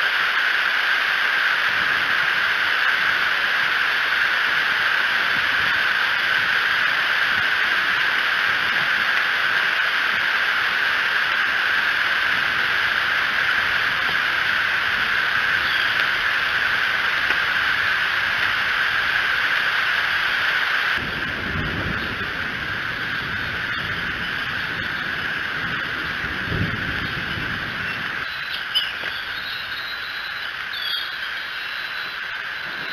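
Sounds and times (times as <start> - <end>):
rain hissing: 0.0 - 32.9
low rumbles: 1.7 - 31.2.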